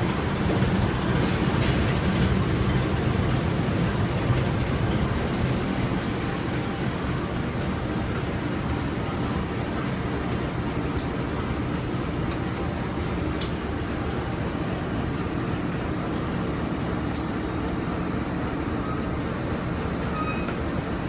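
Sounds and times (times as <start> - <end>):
train rumble inside coach: 0.0 - 21.0.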